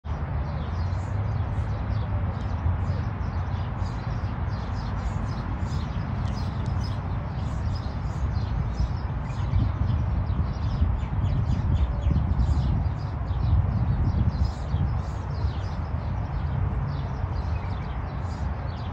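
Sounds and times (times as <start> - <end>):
small birds chirping: 0.1 - 18.9.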